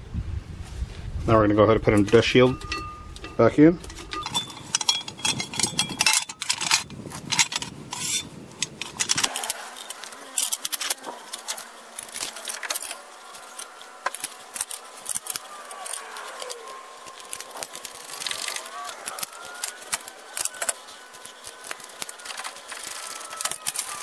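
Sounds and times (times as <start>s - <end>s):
metal parts clinking and scraping: 2.5s - 24.0s.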